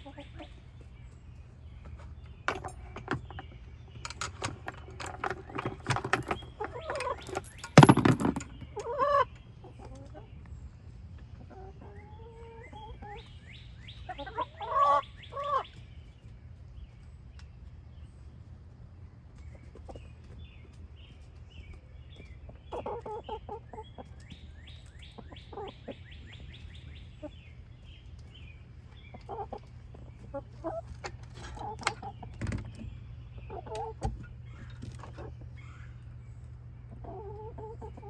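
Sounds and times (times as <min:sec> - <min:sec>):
hens clucking: 0:00.0 - 0:07.5, 0:08.6 - 0:16.4, 0:21.2 - 0:38.0.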